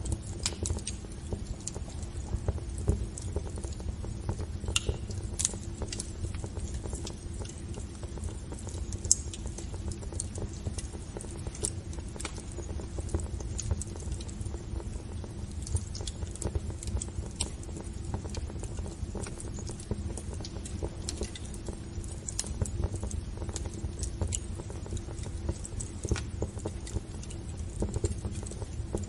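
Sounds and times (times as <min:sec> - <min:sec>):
fire crackling and popping: 0:00.0 - 0:29.0
fire rumbling: 0:00.0 - 0:29.0.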